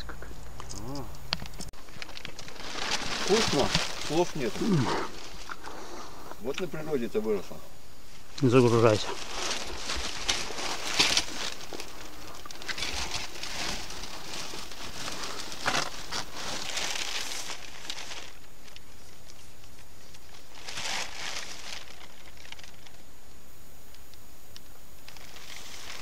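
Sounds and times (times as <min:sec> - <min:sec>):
plastic and fishing gear rustling: 0:01.4 - 0:06.8, 0:08.2 - 0:23.0, 0:25.1 - 0:26.0.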